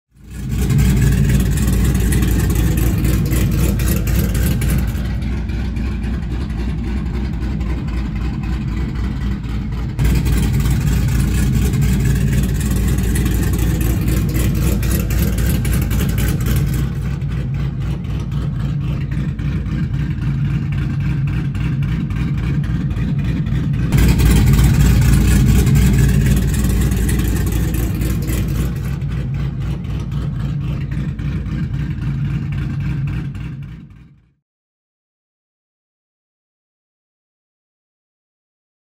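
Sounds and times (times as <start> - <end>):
car engine running: 0.1 - 34.4.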